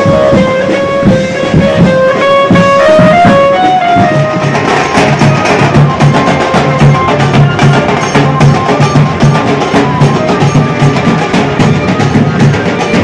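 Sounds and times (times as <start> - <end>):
loud drum-driven music: 0.0 - 13.0.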